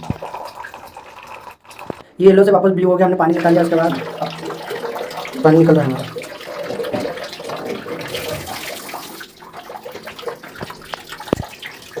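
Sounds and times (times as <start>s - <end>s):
water running from tap: 0.0s - 2.0s, 3.2s - 12.0s.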